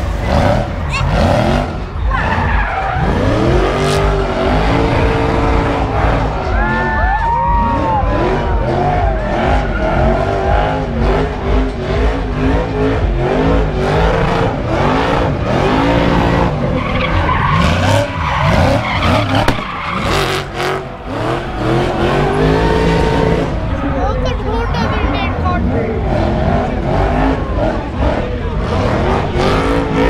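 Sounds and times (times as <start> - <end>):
car engine revving: 0.0 - 30.0
tyres skidding and squealing: 0.0 - 30.0.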